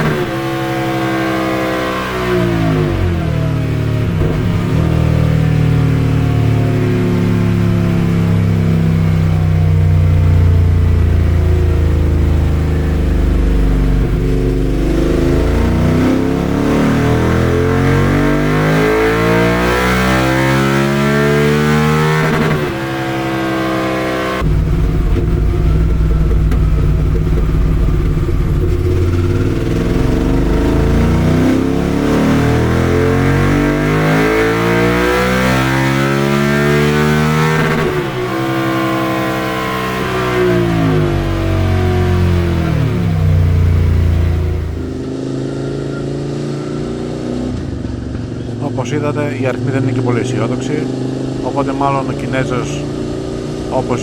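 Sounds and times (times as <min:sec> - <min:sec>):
motorcycle engine at full throttle: 0:00.0 - 0:54.0.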